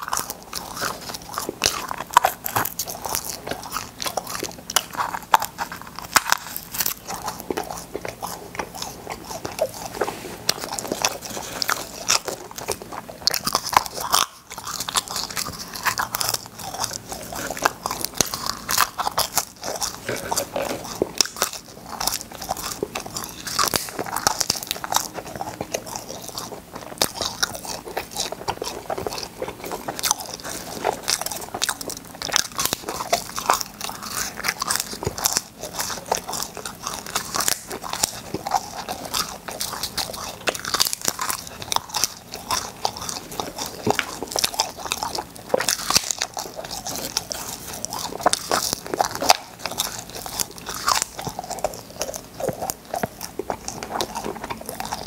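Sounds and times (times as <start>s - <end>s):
popping candy crackling: 0.0s - 55.0s.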